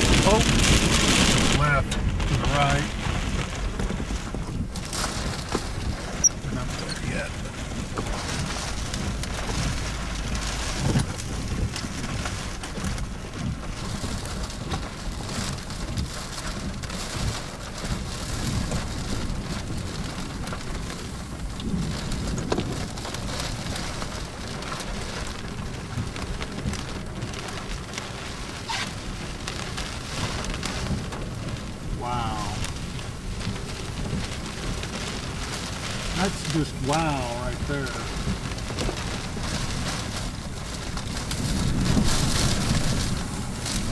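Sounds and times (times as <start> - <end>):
heavy rain pelting a car: 0.0 - 43.9
low rumble: 0.0 - 43.9.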